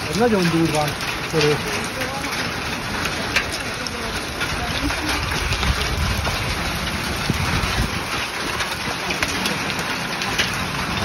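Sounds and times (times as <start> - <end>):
heavy rain pouring: 0.0 - 11.0
wind rumble on microphone: 0.9 - 11.0.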